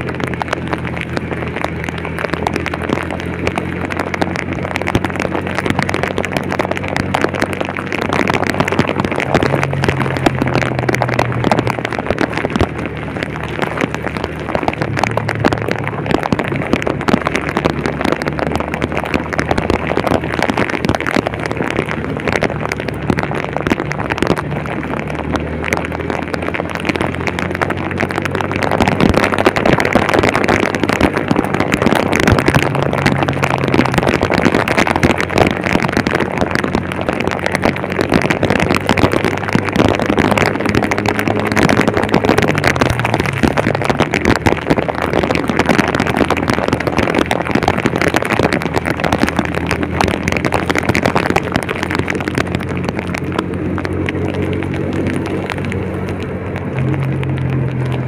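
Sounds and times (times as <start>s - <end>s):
heavy rain hissing: 0.0s - 58.0s
vehicle engine running: 0.0s - 58.0s.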